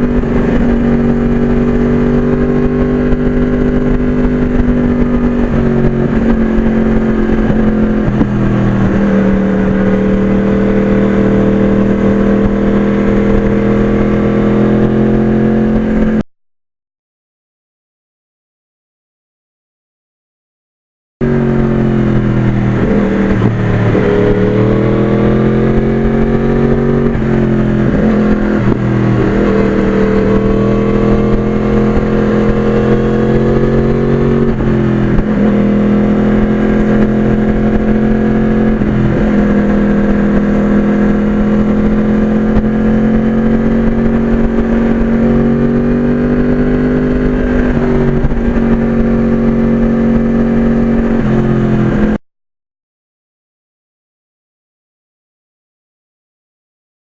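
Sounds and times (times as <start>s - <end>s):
motorcycle engine revving: 0.0s - 16.2s, 21.2s - 52.2s
wind rumble on microphone: 0.0s - 16.2s, 21.2s - 52.2s.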